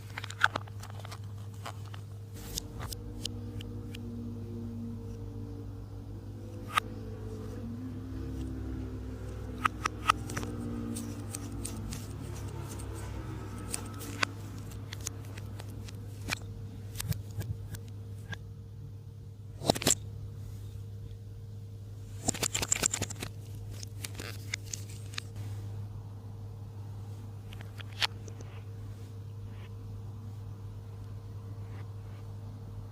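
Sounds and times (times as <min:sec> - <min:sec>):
low hum: 0:00.0 - 0:32.9.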